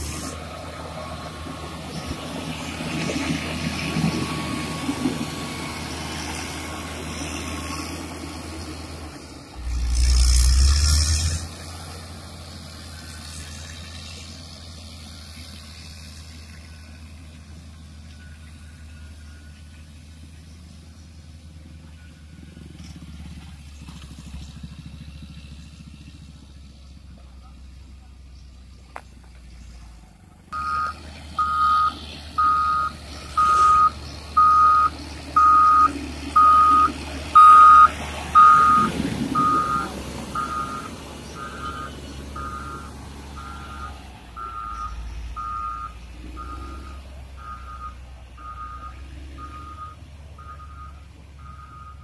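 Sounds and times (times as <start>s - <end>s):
diesel engine running under load: 0.0s - 52.0s.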